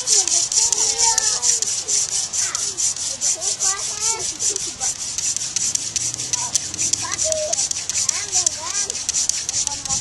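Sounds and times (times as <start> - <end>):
wavering squeaks: 0.0 - 10.0
wood rubbing on wood: 0.0 - 10.0.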